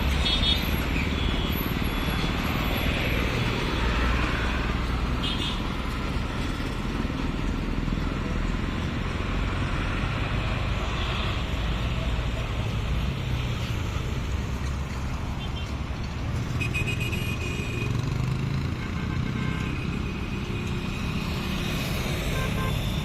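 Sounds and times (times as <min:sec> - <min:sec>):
road and tyre noise: 0:00.0 - 0:23.0.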